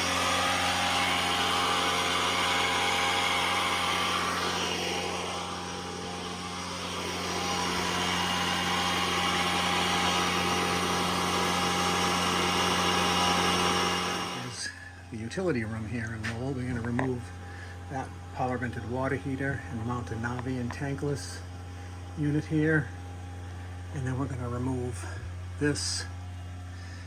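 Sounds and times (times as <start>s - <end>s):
refrigerant recovery machine humming: 0.0s - 27.0s.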